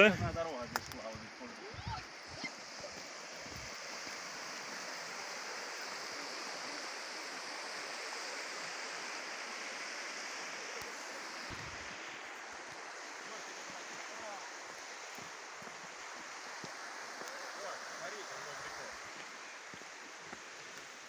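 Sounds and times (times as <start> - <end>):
fast-flowing river water: 0.0 - 21.0.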